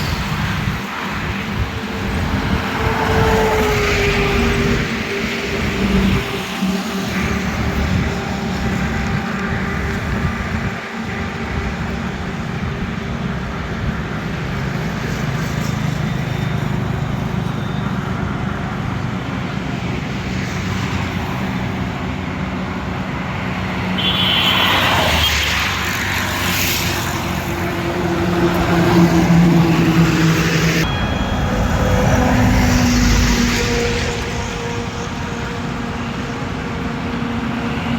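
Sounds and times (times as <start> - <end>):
highway traffic hum: 0.0 - 37.9.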